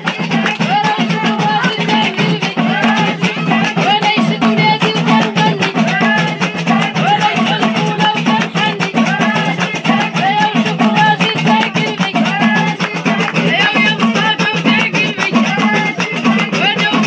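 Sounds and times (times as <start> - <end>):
fast percussion beat: 0.0 - 17.0.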